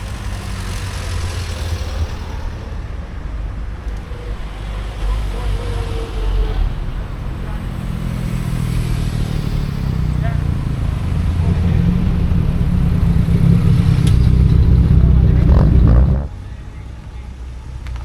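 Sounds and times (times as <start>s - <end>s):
vehicle engines running: 0.0s - 18.0s.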